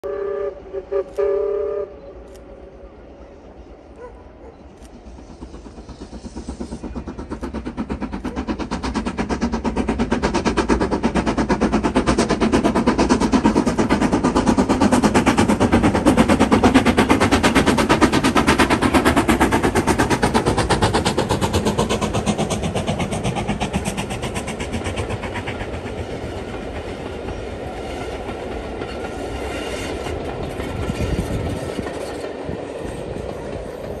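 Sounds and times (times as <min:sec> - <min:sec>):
steam locomotive beat: 0:00.0 - 0:34.0
carriages clattering on rails: 0:03.4 - 0:34.0.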